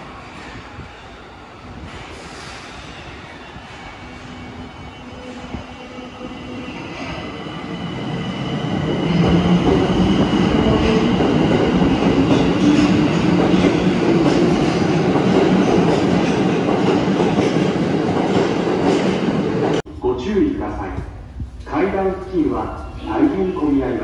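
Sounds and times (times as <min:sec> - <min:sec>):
subway train accelerating past: 0:00.0 - 0:24.0
deep train rumble: 0:03.7 - 0:23.0.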